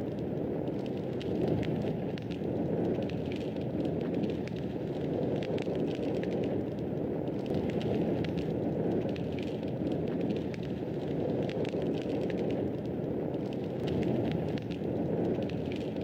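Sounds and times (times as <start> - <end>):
fire burning in fireplace: 0.0 - 16.0
fire crackling and popping: 0.0 - 16.0.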